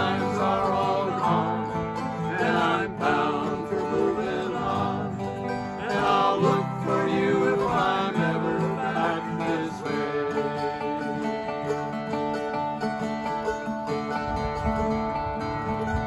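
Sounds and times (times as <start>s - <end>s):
acoustic country folk music: 0.0s - 16.0s.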